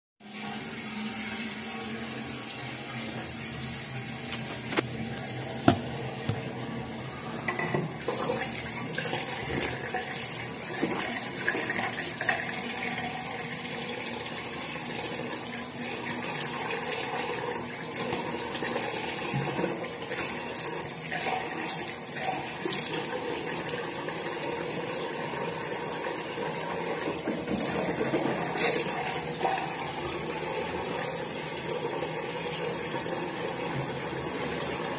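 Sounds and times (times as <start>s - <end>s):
water running: 0.2s - 34.9s.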